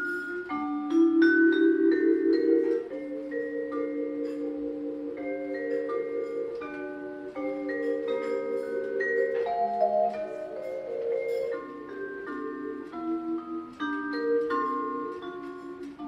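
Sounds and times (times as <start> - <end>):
vibraphone chords: 0.0 - 16.0.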